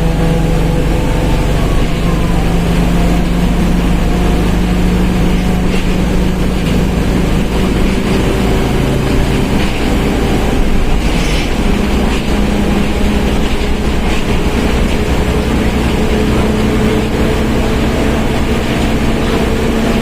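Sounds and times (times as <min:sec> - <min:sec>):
diesel bus engine drone: 0:00.0 - 0:20.0
differential whine: 0:00.0 - 0:20.0.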